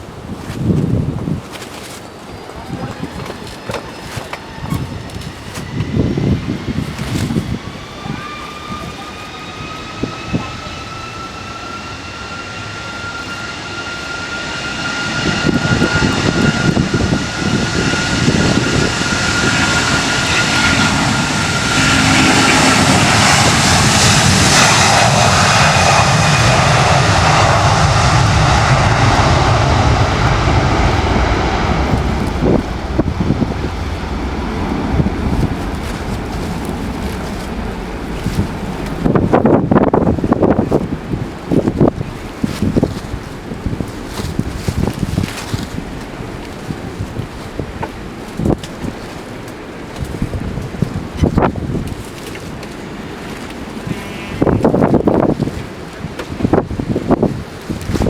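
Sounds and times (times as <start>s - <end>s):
jet airliner passing: 0.0s - 58.0s.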